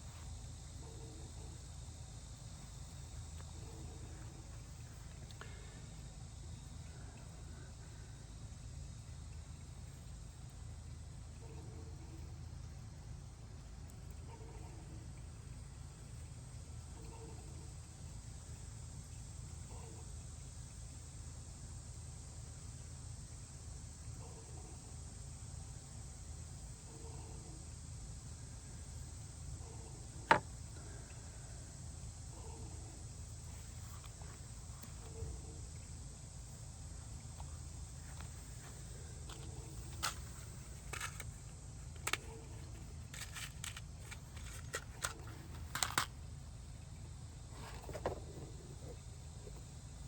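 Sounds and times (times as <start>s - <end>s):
faint hiss: 0.0s - 50.0s
faint ticks and handling: 0.0s - 50.0s.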